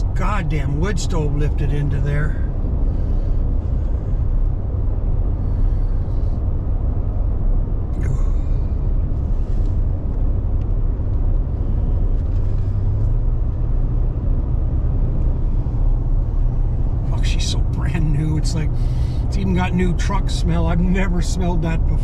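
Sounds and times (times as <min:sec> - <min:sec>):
engine and tyre rumble in cab: 0:00.0 - 0:22.0.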